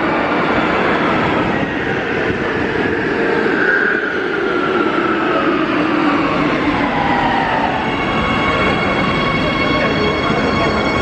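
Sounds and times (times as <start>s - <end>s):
traction motors whining: 0.0s - 11.0s
wheels rumbling: 0.0s - 11.0s.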